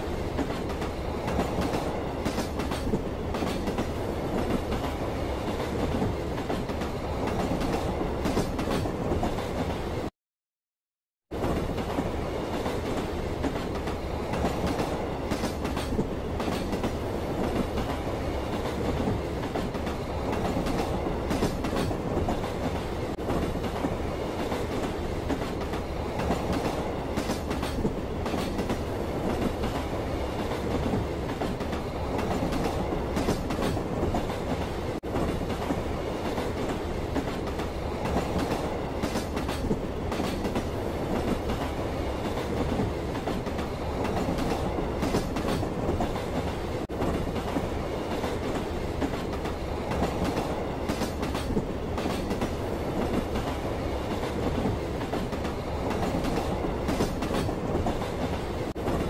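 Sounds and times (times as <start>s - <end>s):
track clicks and clacks: 0.0s - 9.9s, 11.4s - 59.0s
train wheels rumbling on rails: 0.0s - 10.1s, 11.3s - 59.0s.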